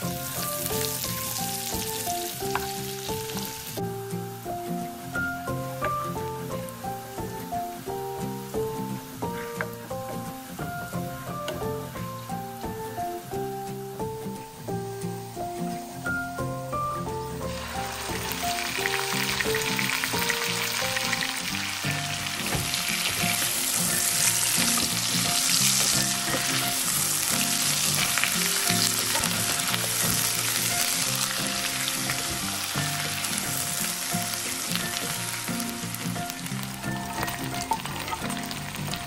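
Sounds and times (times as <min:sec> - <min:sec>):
background music: 0:00.0 - 0:39.0
food sizzling in hot oil: 0:00.0 - 0:39.0.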